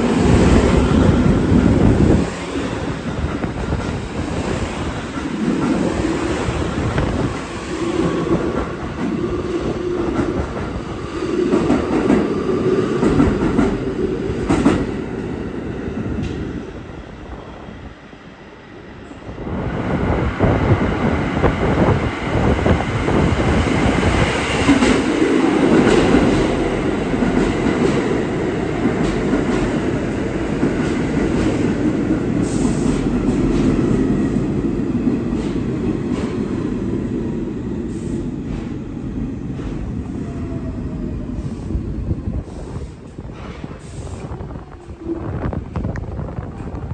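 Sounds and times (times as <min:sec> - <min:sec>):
subway train wheels clattering: 0:00.0 - 0:46.9.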